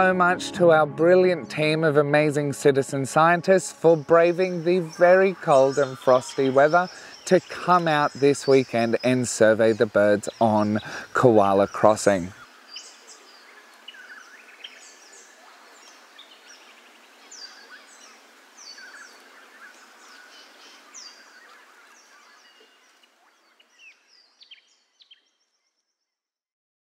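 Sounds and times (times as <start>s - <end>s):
background hiss: 0.0s - 24.8s
birds chirping: 0.0s - 25.7s.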